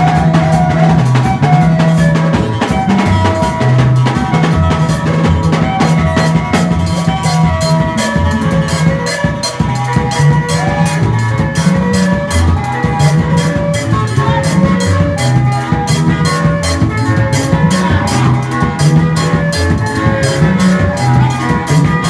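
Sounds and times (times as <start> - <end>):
moving bass line: 0.0 - 22.0
steady drum beat: 0.0 - 22.0
sustained melodic notes: 0.0 - 22.0.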